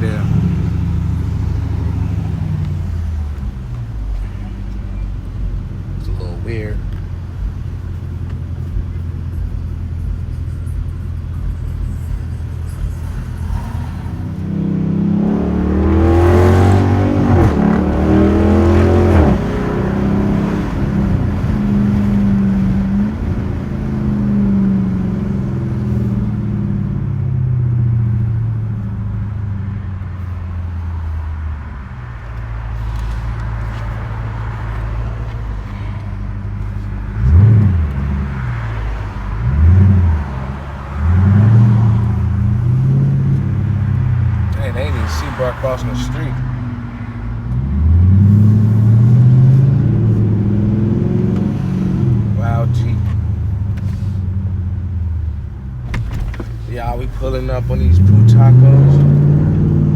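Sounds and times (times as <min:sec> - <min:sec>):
car exhaust accelerating: 0:00.0 - 0:59.9
engine rev: 0:00.0 - 0:59.9.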